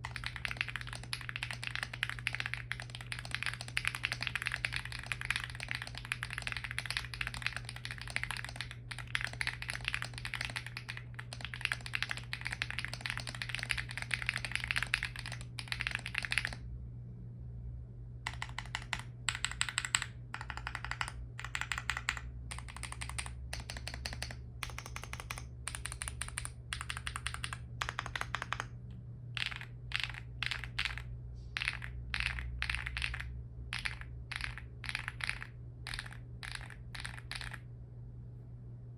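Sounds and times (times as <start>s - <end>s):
mechanical keyboard typing: 0.0s - 16.6s, 18.3s - 28.8s, 29.4s - 37.7s.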